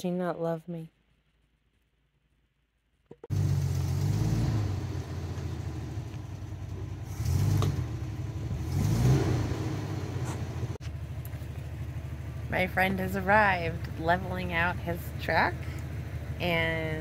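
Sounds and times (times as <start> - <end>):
truck engine revving: 3.2 - 17.0.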